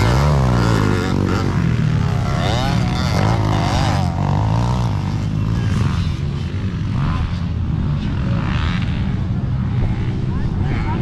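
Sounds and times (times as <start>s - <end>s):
off-road motorcycle engines running: 0.0s - 11.0s.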